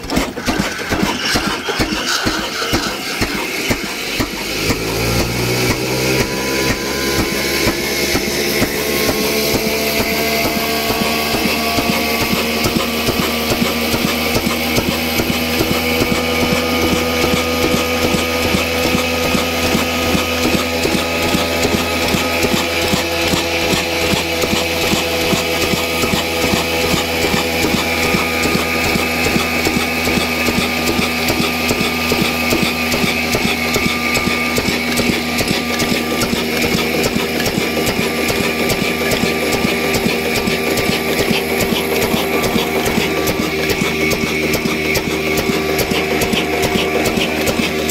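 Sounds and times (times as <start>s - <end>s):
grinding mill whine: 0.0s - 47.9s
oil engine knocking beat: 0.0s - 47.9s.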